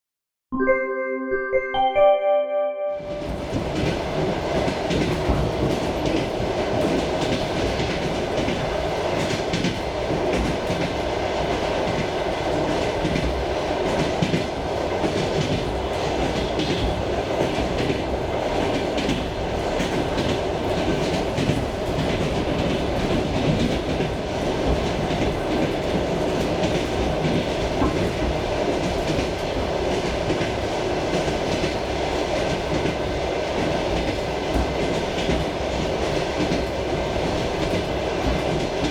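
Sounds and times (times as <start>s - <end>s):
train rumbling: 3.0s - 38.9s.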